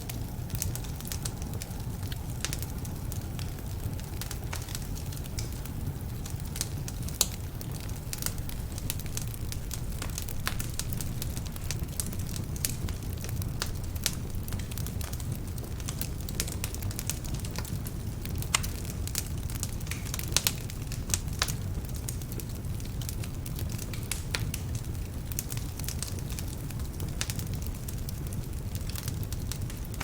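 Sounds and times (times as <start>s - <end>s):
wood fire crackling in fireplace: 0.0s - 30.0s.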